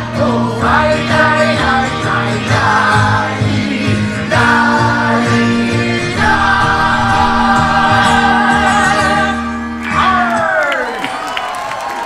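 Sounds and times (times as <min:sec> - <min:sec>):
group of voices singing: 0:00.0 - 0:09.9
instrumental backing music: 0:00.0 - 0:10.4.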